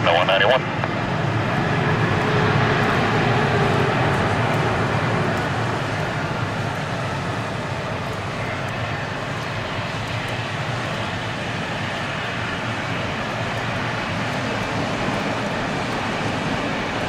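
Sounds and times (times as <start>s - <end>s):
jet engine rushing noise: 0.0s - 17.0s.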